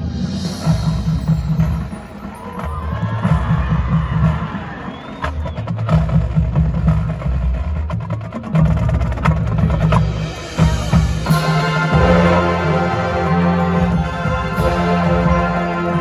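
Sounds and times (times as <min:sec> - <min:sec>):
marching band playing: 0:00.0 - 0:16.0
percussion strikes and drum hits: 0:00.0 - 0:16.0.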